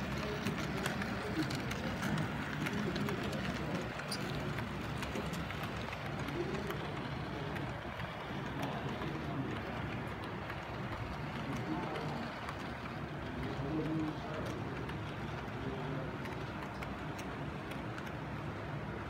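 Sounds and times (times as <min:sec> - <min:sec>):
model train mechanism running: 0:00.0 - 0:19.0
wheels clicking over track: 0:00.0 - 0:19.0.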